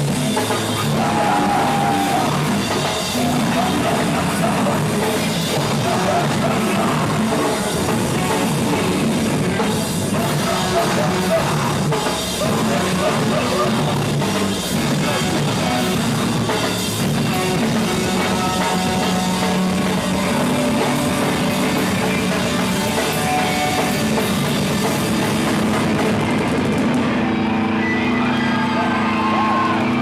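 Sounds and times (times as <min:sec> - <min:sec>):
drum kit: 0:00.0 - 0:30.0
guitar: 0:00.0 - 0:30.0
rock band playing live: 0:00.0 - 0:30.0.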